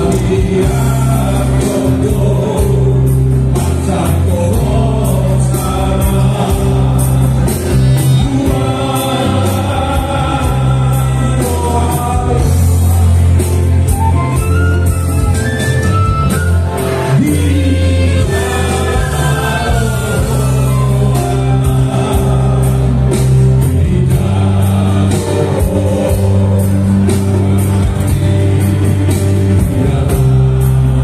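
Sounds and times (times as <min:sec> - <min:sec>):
band with strong bass line: 0:00.0 - 0:31.0
male vocal quartet singing: 0:00.0 - 0:31.0.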